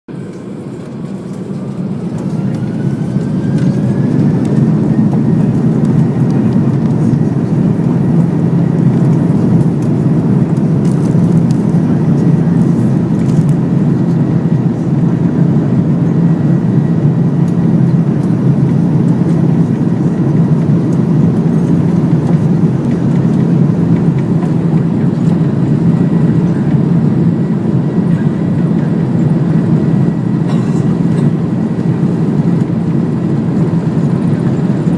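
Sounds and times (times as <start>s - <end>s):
jet engines spooling up: 0.1s - 34.9s.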